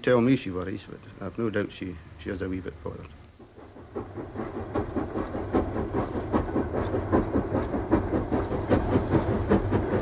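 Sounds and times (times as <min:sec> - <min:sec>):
train running on tracks: 0:00.3 - 0:10.0.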